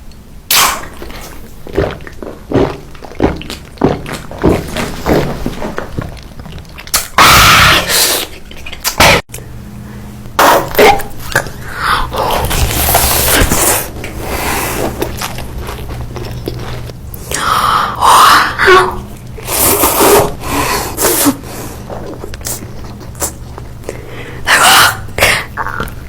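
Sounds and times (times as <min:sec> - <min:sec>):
low steady hum: 0:00.0 - 0:26.0
eating bites and crunching: 0:00.1 - 0:09.3, 0:10.6 - 0:17.5, 0:19.2 - 0:24.1.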